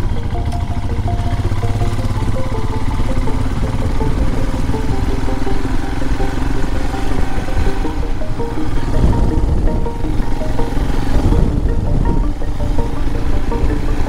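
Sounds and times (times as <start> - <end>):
background music repeated notes: 0.0 - 14.0
motorcycle engine cruising: 0.0 - 14.0.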